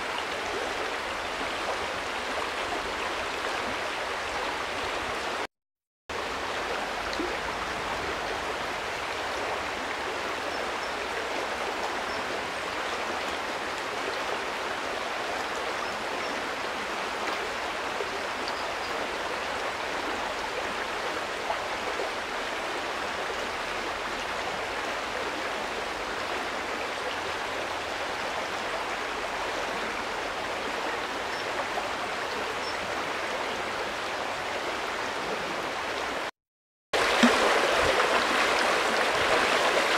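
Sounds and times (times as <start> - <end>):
river water flowing: 0.0 - 5.5, 6.1 - 36.3, 37.0 - 39.9.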